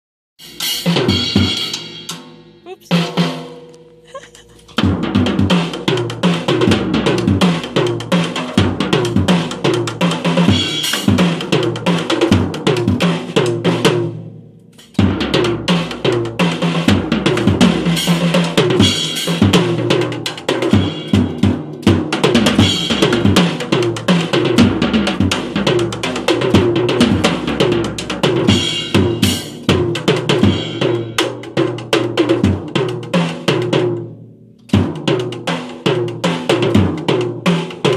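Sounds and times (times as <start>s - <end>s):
drums playing fast groove: 0.4s - 34.0s, 34.7s - 37.9s.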